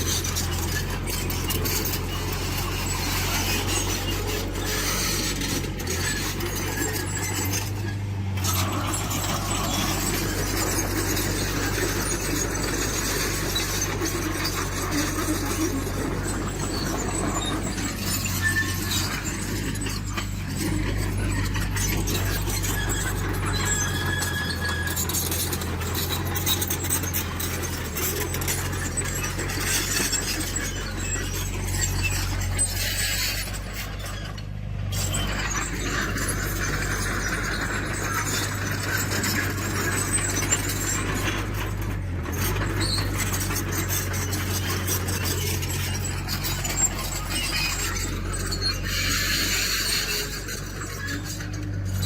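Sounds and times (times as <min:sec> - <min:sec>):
crawler tracks squealing and clanking: 0:00.0 - 0:52.0
diesel engine running: 0:00.0 - 0:52.0.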